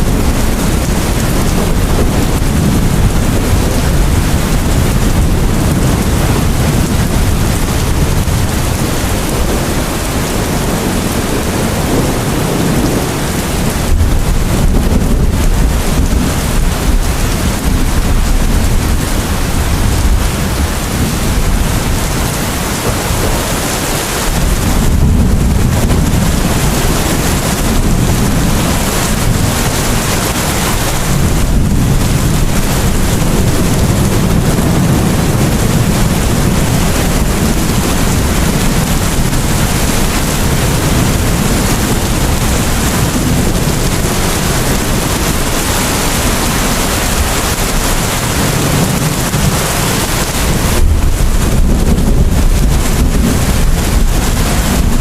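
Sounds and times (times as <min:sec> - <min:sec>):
deep rumble: 0:00.0 - 0:55.0
heavy rain: 0:00.0 - 0:55.0.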